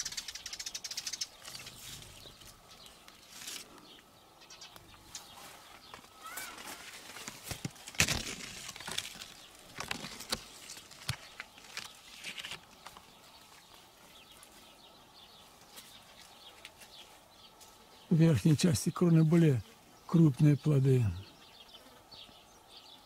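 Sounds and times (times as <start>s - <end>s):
leaves and twigs rustling: 0.0s - 20.3s.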